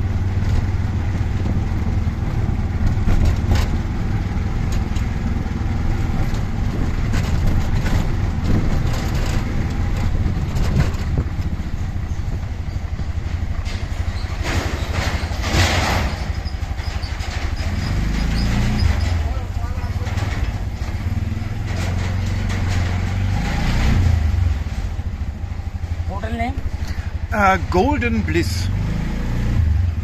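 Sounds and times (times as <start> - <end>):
road noise: 0.0 - 30.0
surrounding traffic: 0.0 - 30.0.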